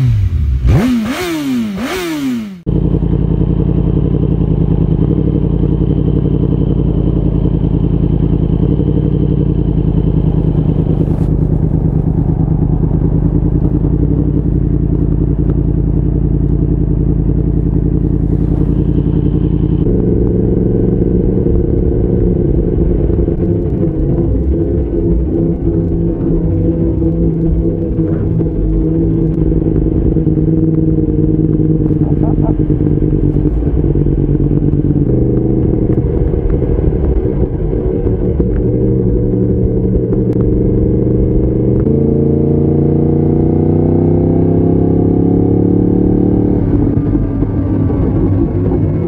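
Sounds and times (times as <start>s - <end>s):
motorcycle engine droning: 0.0s - 49.0s
motorcycle engine revving: 0.0s - 49.0s.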